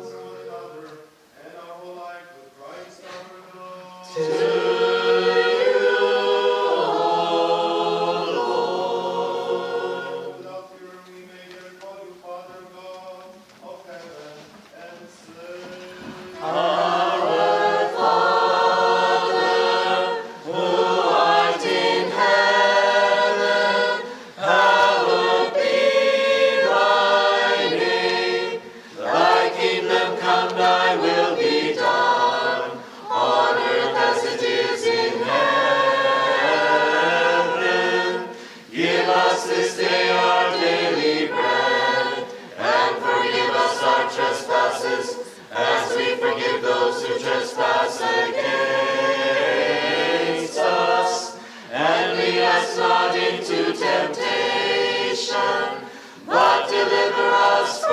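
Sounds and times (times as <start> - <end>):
choir singing unaccompanied: 0.0 - 57.9.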